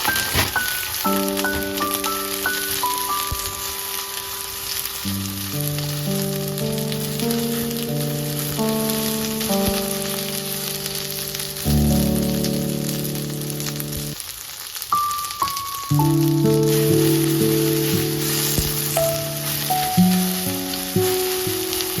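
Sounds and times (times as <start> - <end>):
music of held notes: 0.0 - 14.2, 14.9 - 22.0
food sizzling in a frying pan: 0.0 - 22.0.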